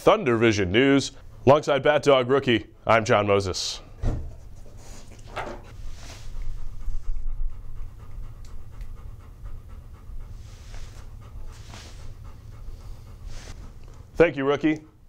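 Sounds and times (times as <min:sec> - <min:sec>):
low background hum: 0:00.0 - 0:15.0
dog panting: 0:00.2 - 0:03.3, 0:04.3 - 0:15.0.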